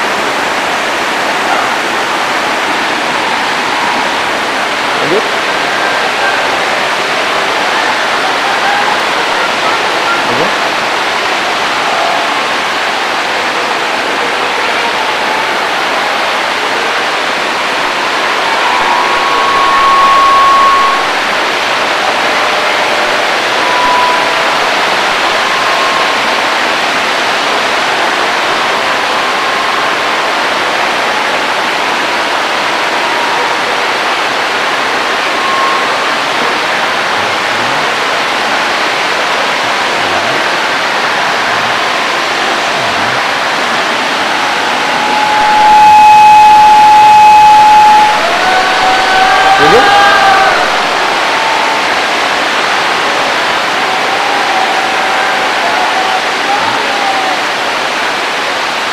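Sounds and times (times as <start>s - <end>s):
loud steady hiss: 0.0s - 58.9s.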